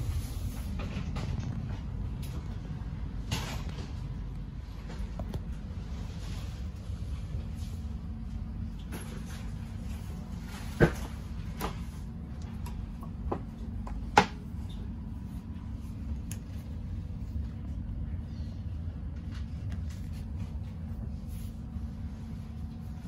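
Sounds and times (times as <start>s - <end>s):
train carriage low hum: 0.0s - 23.0s.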